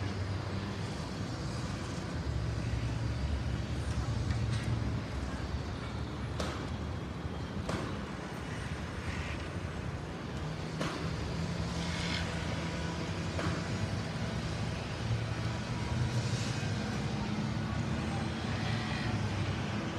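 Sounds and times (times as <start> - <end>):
vehicle engines rumbling: 0.0 - 19.9.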